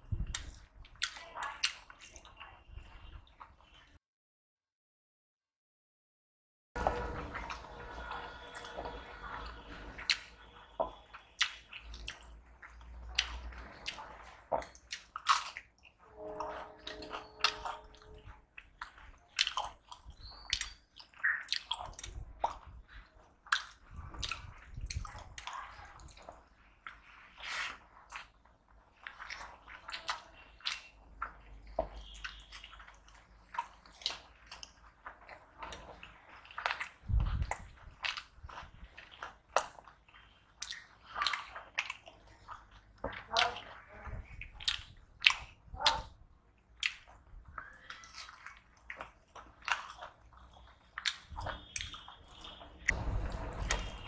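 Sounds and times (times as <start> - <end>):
man chewing with mouth smacks: 0.0 - 4.0, 6.8 - 54.0.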